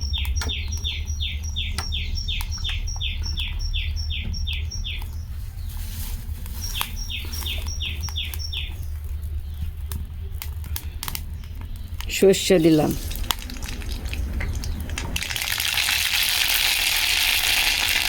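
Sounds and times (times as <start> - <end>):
small bird chirping: 0.0 - 15.0
steady low hum: 0.0 - 16.6.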